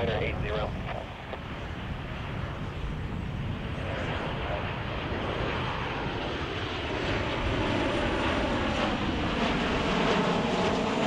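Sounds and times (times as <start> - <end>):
wind buffeting microphone: 0.0 - 10.2
airliner engines roaring: 0.0 - 11.0.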